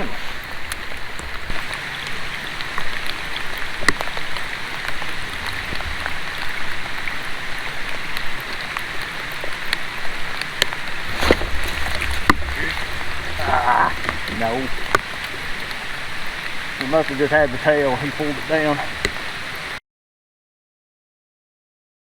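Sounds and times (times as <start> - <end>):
steady rain falling: 0.0 - 19.8.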